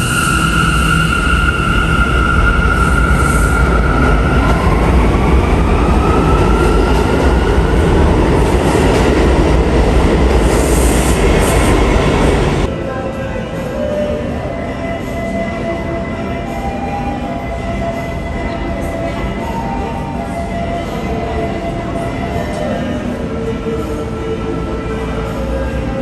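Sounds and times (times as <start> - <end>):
subway train running: 0.0 - 26.0.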